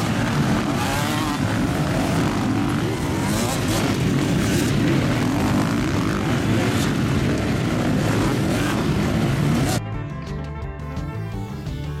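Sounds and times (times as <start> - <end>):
motocross bikes racing past: 0.0 - 9.8.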